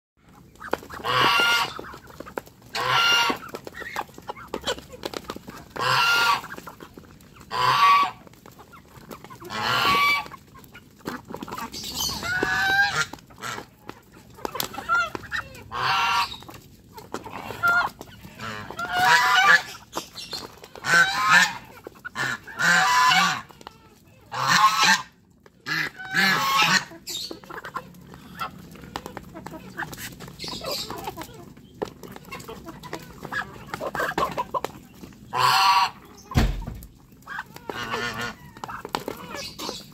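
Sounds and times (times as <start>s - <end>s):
geese honking: 0.3s - 39.9s.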